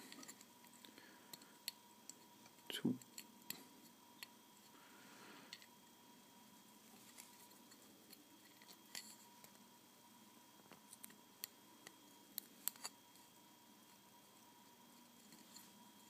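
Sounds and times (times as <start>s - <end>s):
faint steady tone: 0.0s - 16.0s.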